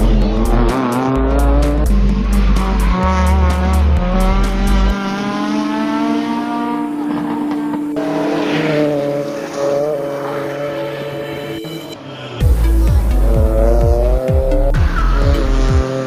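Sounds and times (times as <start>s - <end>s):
music with steady beat: 0.0s - 9.8s, 11.6s - 16.0s
rally car engine revving: 0.0s - 11.8s, 12.4s - 16.0s
music with long held notes: 0.0s - 16.0s.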